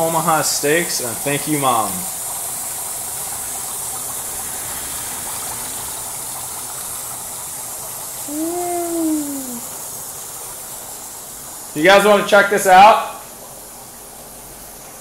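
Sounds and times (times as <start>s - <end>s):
dry ice fizzing in water: 0.0s - 14.0s
tap water running: 0.0s - 15.0s.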